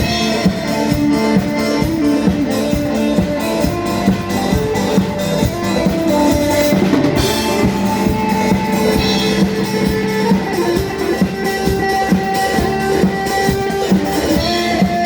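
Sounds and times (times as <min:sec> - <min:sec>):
loud music over pa system: 0:00.0 - 0:15.0.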